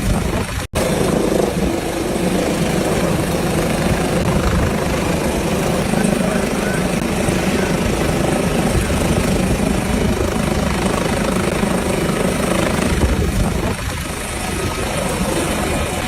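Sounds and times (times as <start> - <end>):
helicopter rotor chop and turbine: 0.0 - 16.0.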